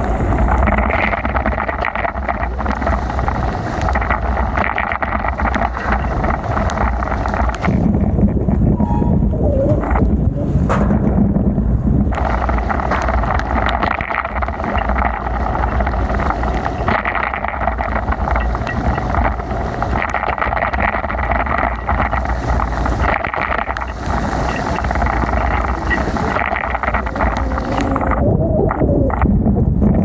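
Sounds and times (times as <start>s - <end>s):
wind rushing on microphone: 0.0s - 30.0s.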